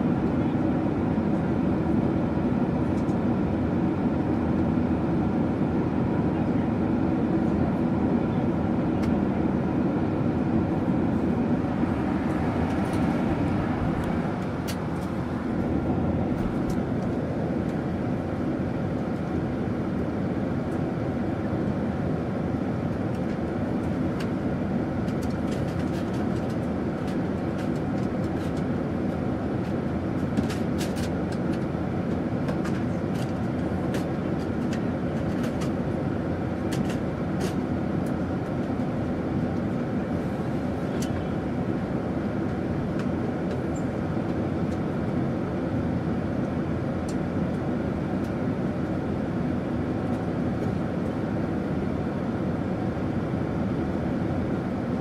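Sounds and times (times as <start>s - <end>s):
airliner cabin drone: 0.0s - 55.0s.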